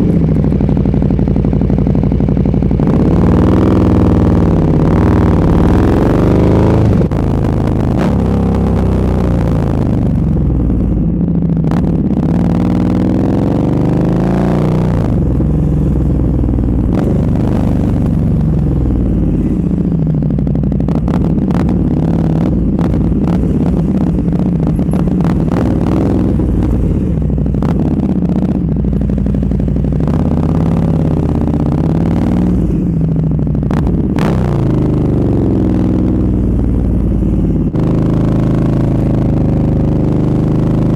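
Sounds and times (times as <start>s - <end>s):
exhaust cracks: 0.0s - 40.9s
motorcycle engine accelerating: 0.0s - 40.9s.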